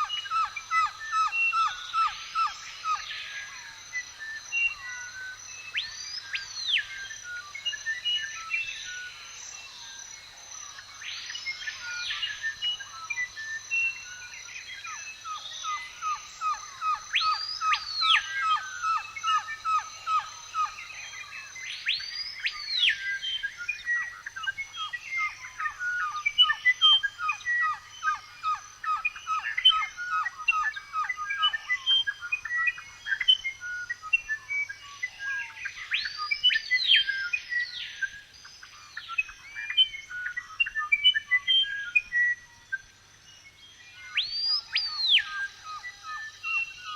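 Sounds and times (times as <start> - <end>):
loud whistled bird calls: 0.0 - 9.8, 10.7 - 46.9.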